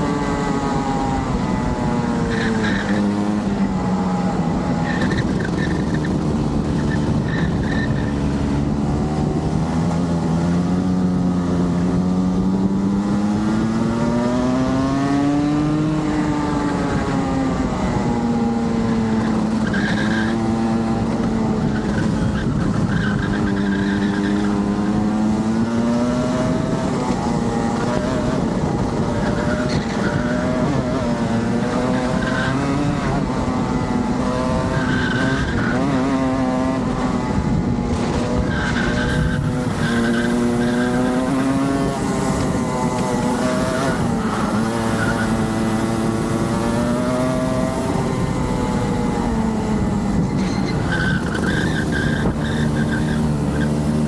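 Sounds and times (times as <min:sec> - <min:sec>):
two-stroke kart engine revving: 0:00.0 - 0:54.0.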